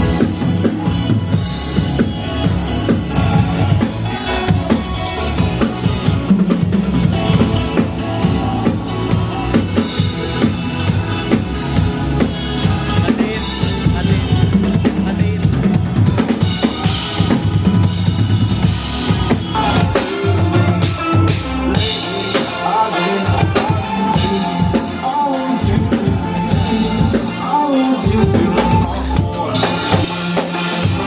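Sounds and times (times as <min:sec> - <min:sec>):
music with live drum kit: 0:00.0 - 0:31.0.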